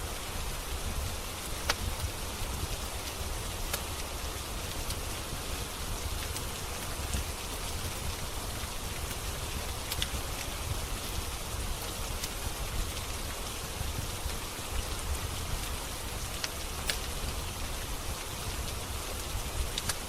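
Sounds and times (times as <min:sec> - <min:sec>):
rain falling: 0:00.0 - 0:20.0
wood fire crackling and popping: 0:01.4 - 0:20.0.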